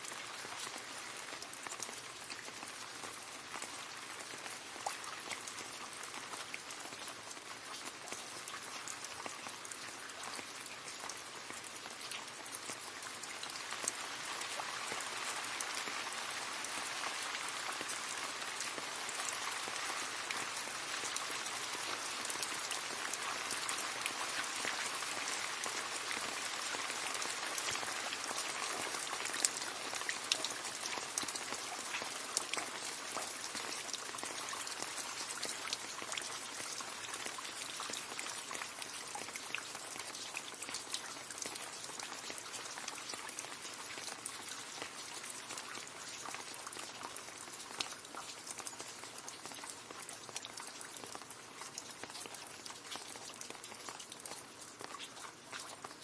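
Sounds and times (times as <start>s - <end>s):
rain falling into a puddle: 0.0s - 56.0s.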